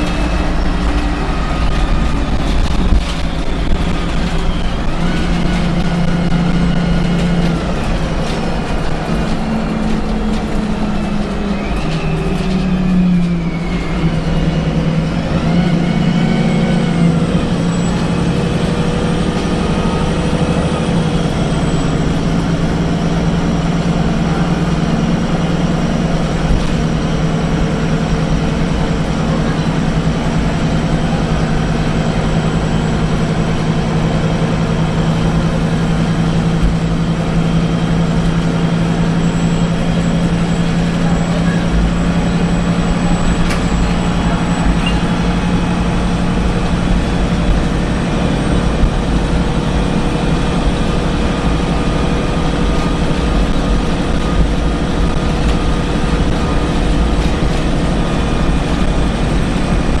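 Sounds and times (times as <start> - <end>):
bus engine drone: 0.0 - 60.0
low hum: 0.0 - 60.0
road rumble: 0.0 - 60.0.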